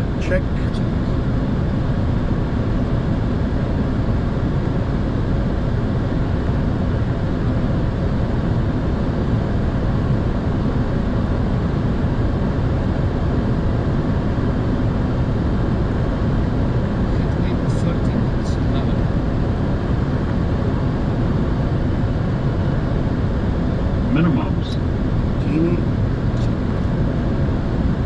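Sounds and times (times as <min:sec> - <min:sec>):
jet engines humming: 0:00.0 - 0:28.0.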